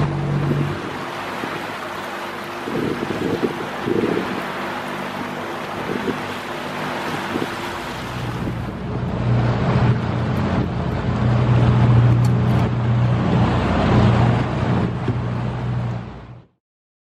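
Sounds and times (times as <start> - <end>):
boat engine drone: 0.0 - 16.6
water noise: 0.0 - 16.6
wind: 0.0 - 16.6.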